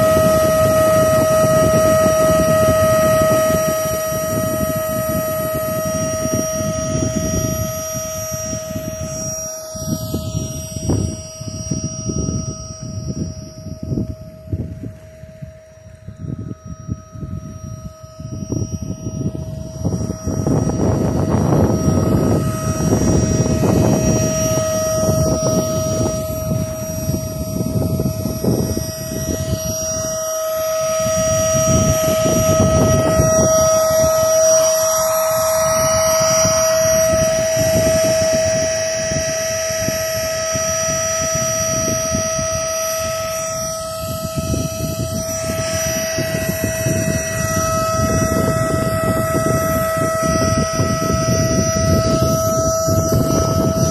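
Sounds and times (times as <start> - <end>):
electric pump motor whine: 0.0 - 53.9.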